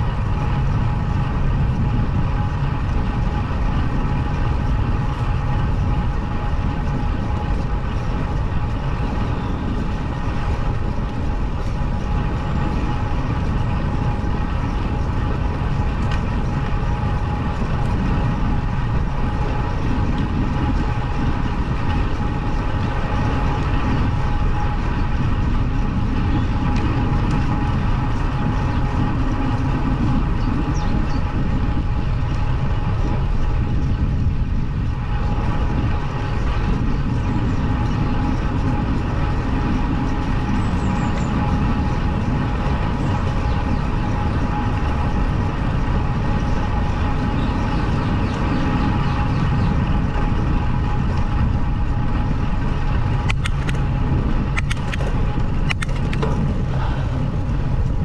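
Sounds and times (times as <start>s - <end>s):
faint steady whine: 0.0s - 58.0s
road vibration rumble: 0.0s - 58.0s
wind on microphone: 0.0s - 58.0s.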